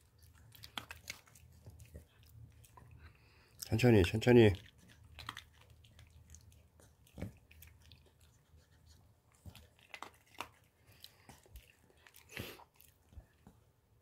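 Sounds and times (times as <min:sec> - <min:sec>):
dog chewing treat crunches: 0:00.0 - 0:02.9, 0:03.6 - 0:08.4, 0:09.4 - 0:13.5.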